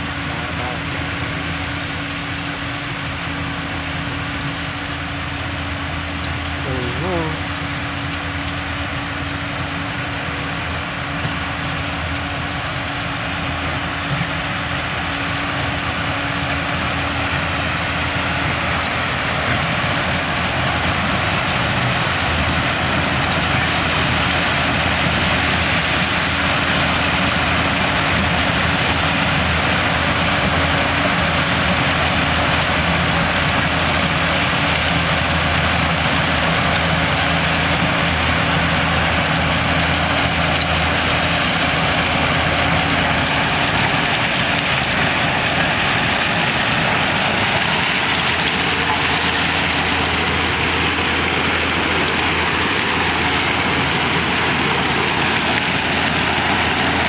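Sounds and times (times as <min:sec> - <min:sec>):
large diesel engine running: 0:00.0 - 0:57.0.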